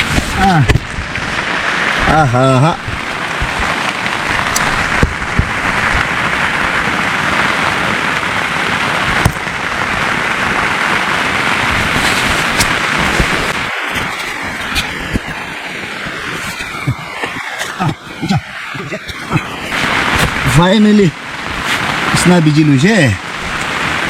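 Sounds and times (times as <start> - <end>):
heavy rain on a tent: 0.0 - 24.0.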